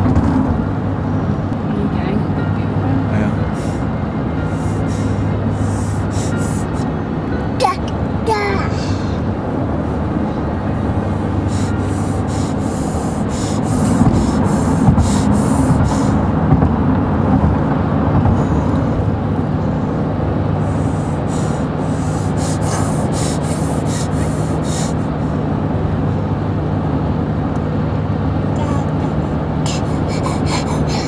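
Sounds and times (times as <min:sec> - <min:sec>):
car cabin rumble and hum: 0:00.0 - 0:31.0.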